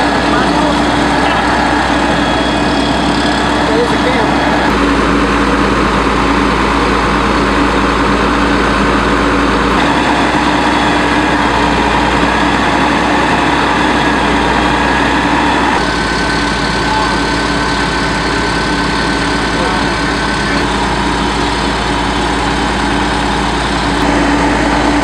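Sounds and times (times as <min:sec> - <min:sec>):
fire engine pump running: 0:00.0 - 0:25.0.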